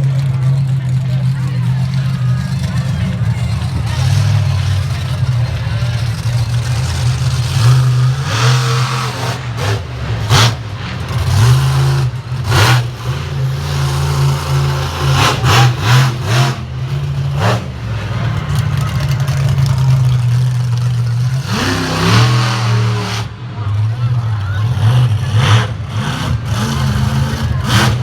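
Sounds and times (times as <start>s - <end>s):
monster truck engine revving: 0.0s - 28.0s.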